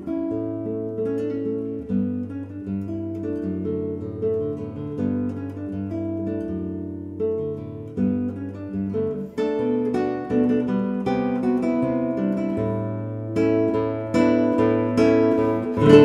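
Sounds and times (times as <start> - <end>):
classical guitar fingerstyle: 0.0 - 16.0.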